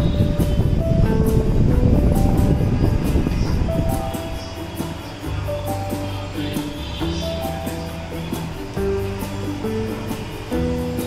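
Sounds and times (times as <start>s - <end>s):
background music with held notes: 0.0s - 11.0s
loud low rumble: 0.0s - 11.0s.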